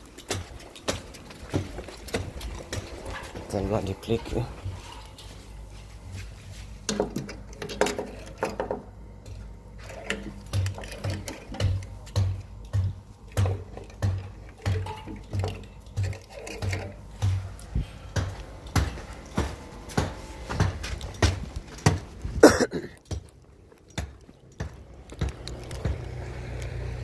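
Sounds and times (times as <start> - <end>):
footsteps walking: 0.0 - 7.4, 11.7 - 27.0.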